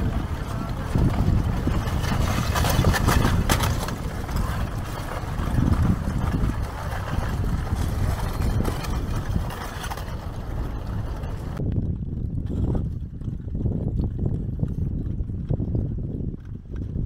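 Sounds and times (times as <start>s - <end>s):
lava crust cracking and clinking: 0.0s - 17.0s
wind rumbling on microphone: 0.0s - 17.0s.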